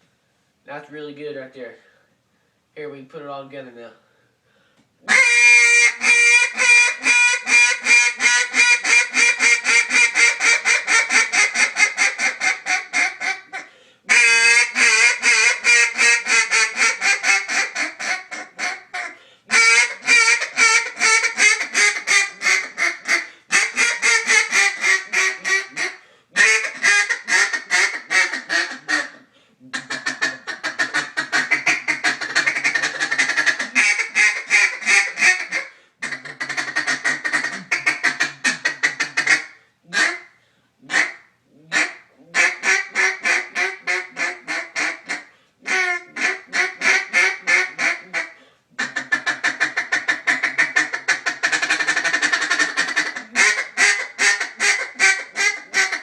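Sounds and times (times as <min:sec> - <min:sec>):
duck call quacks: 0:05.0 - 0:56.0.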